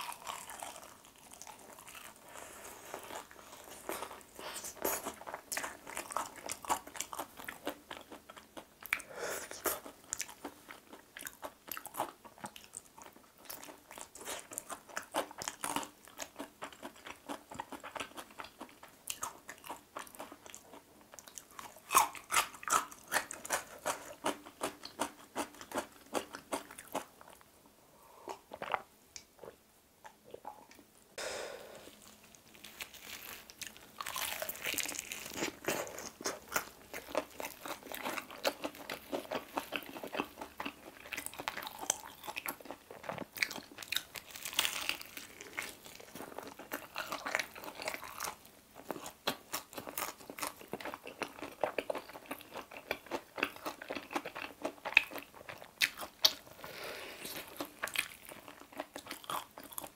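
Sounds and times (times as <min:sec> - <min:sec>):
crunching fried chicken: 0:00.0 - 0:09.0, 0:09.6 - 0:27.4, 0:31.9 - 0:59.9.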